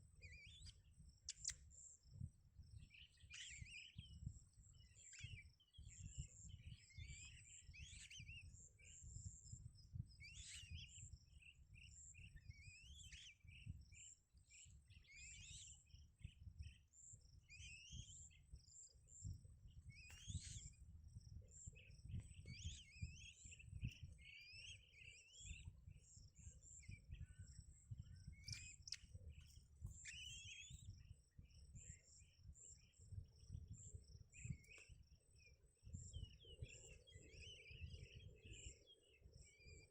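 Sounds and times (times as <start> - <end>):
faint low rumble: 0.0 - 38.7
small birds chirping: 0.0 - 39.9.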